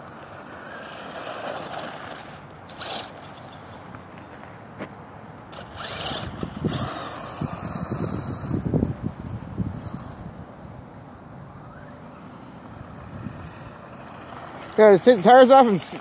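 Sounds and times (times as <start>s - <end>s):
electric toy truck motor running: 0.0s - 3.8s, 5.5s - 10.4s, 11.6s - 16.0s
tires scraping on snow: 0.0s - 10.6s, 11.6s - 16.0s.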